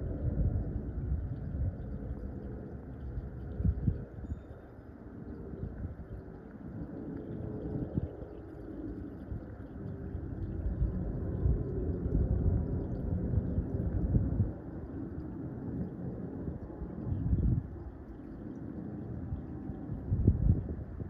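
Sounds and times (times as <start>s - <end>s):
distant aircraft rumble: 0.0s - 21.0s.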